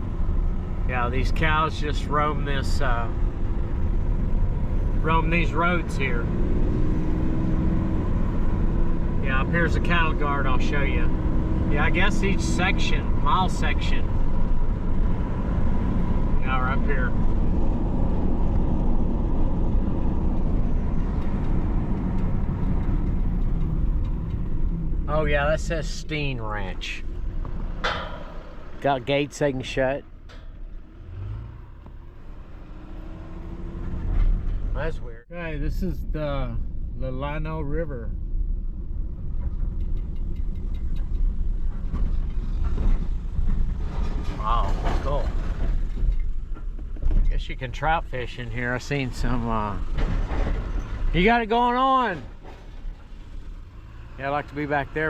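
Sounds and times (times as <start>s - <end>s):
truck driving rumble: 0.0s - 55.0s.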